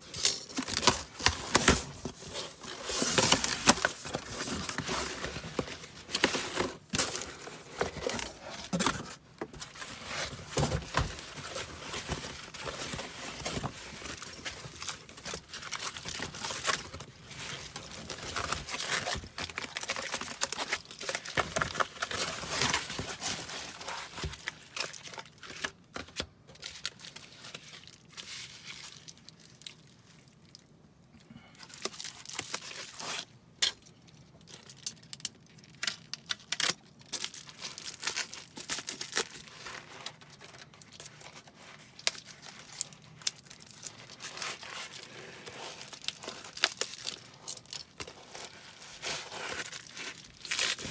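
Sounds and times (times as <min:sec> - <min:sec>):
wrapping material crinkling: 0:00.0 - 0:30.8, 0:31.4 - 0:50.9.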